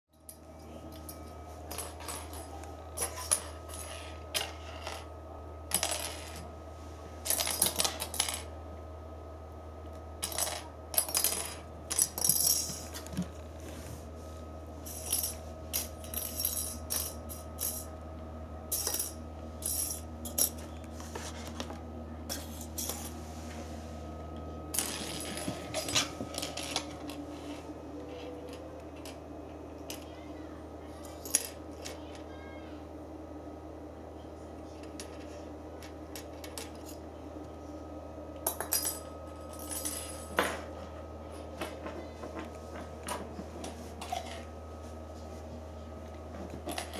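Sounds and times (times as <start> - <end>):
steady low hum: 0.1 - 46.9.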